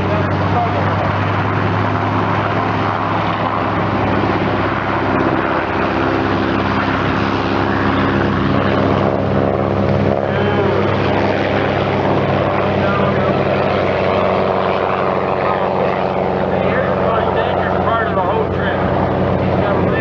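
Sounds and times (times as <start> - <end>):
higher engine tone: 0.0 - 20.0
propeller airplane engine: 0.0 - 20.0.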